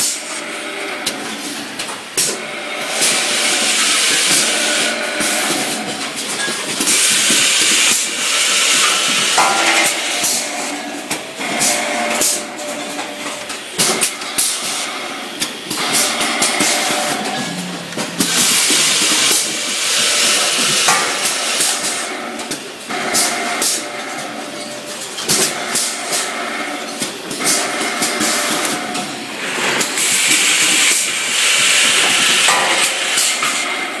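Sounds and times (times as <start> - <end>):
machine motors running: 0.0 - 34.0.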